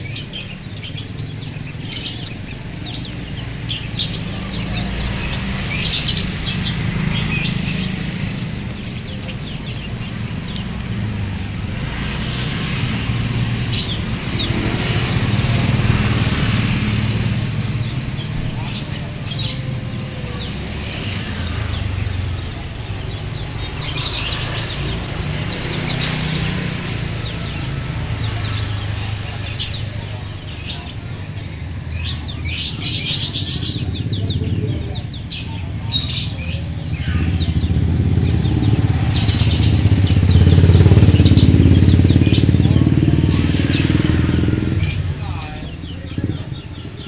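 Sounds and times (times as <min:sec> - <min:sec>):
engine rumble: 0:00.0 - 0:47.0.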